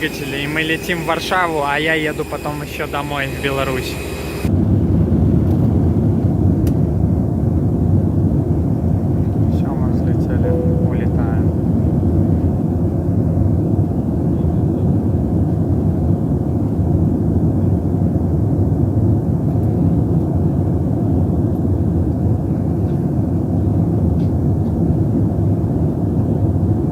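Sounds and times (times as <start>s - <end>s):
airliner engines droning: 0.0s - 26.9s.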